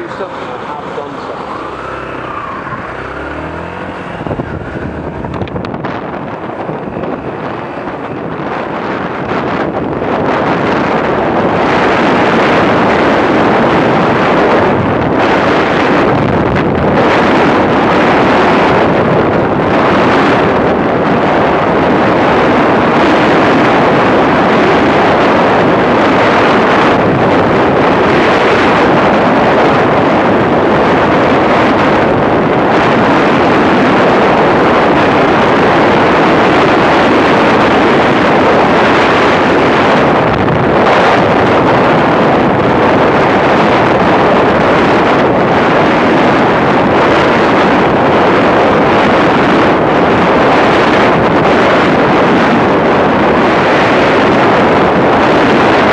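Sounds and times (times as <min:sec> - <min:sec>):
motorcycle running: 0:00.0 - 0:55.9
wind rushing over microphone: 0:00.0 - 0:55.9.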